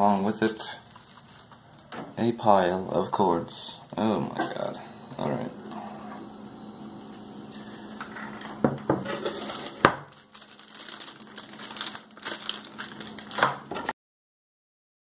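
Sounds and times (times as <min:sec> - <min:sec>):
packaging crinkling and rustling: 0:00.0 - 0:03.1, 0:04.6 - 0:13.9.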